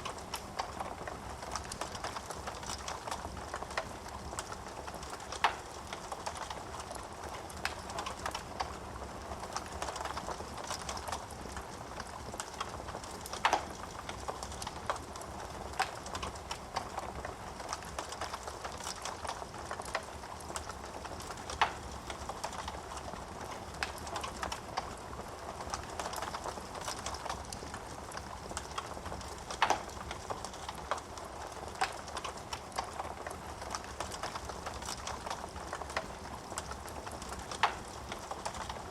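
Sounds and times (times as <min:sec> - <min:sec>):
fire crackling and popping: 0:00.0 - 0:38.9
wood fire hissing: 0:00.0 - 0:38.9.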